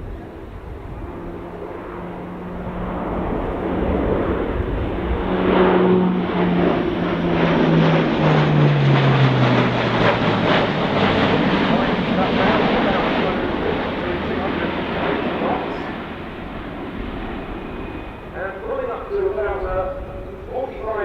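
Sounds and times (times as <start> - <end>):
turboprop aircraft flying past: 0.0 - 21.0.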